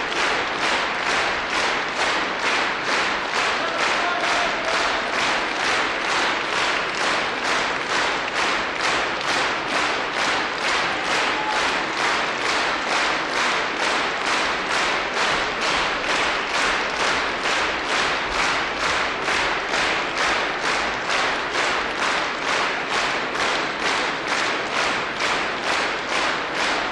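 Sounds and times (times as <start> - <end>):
audience clapping rhythmically: 0.0 - 26.9.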